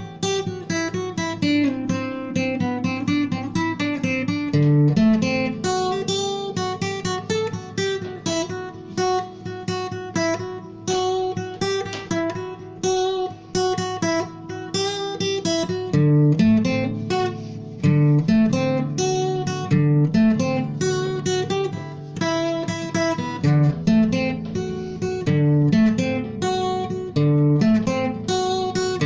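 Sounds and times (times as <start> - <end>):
acoustic guitar fingerpicking: 0.0 - 29.0.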